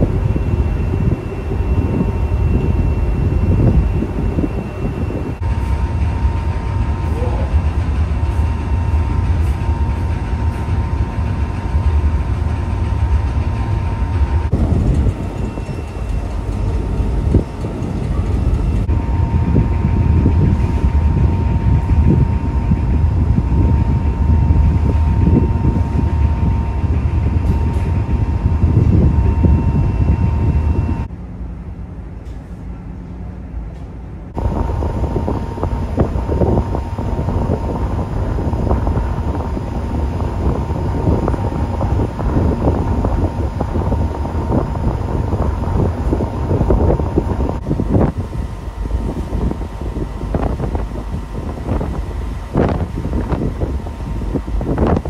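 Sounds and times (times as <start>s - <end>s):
wind buffeting microphone: 0.0s - 31.1s, 34.3s - 55.0s
ferry engine rumble: 0.0s - 55.0s.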